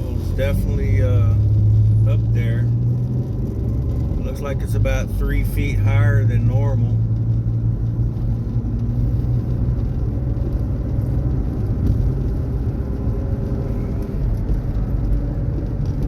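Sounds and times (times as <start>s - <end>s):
car engine and road hum: 0.0s - 16.0s.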